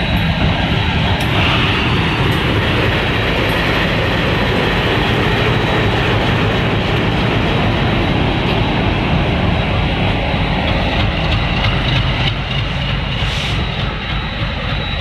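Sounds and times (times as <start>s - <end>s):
locomotive engine running: 0.0s - 15.0s
wheels clattering on rails: 0.0s - 15.0s.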